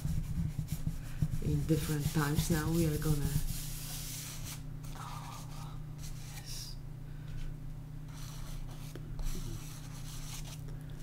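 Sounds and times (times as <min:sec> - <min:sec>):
palm rubbing pastel on paper: 0:00.0 - 0:06.5, 0:08.1 - 0:10.6
scratchy pastel strokes on paper: 0:00.0 - 0:06.5, 0:08.1 - 0:10.6
steady low hum: 0:00.0 - 0:11.0.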